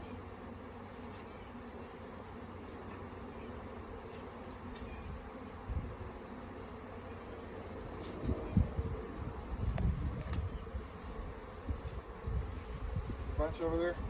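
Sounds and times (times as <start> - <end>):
bee swarm buzzing: 0.0 - 14.0.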